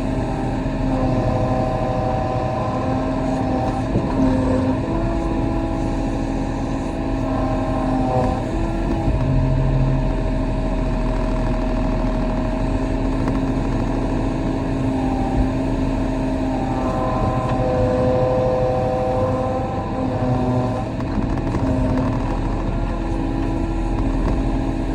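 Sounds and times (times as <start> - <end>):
excavator diesel engine running: 0.0 - 24.9
hydraulics whining: 0.0 - 24.9.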